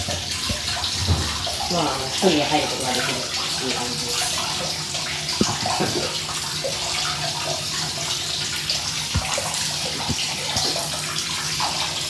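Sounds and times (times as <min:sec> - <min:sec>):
running water splashing in a bath: 0:00.0 - 0:12.0
soft low water plops: 0:00.0 - 0:12.0.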